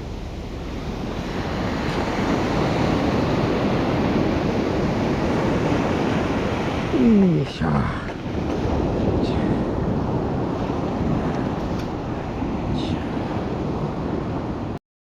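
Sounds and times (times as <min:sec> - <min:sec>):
waves washing on sand: 0:00.0 - 0:14.8
wind on microphone: 0:00.0 - 0:14.8.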